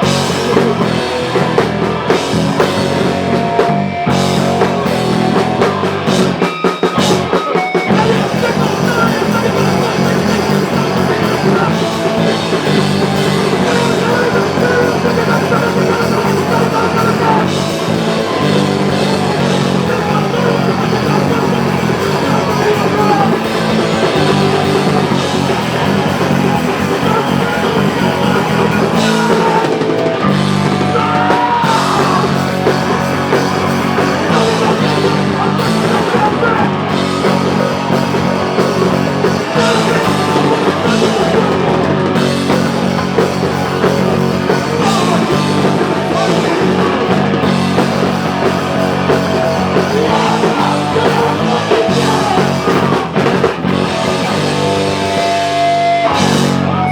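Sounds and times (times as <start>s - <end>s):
bass guitar: 0.0s - 56.9s
drum kit: 0.0s - 56.9s
electric guitars: 0.0s - 56.9s
person singing: 0.0s - 56.9s.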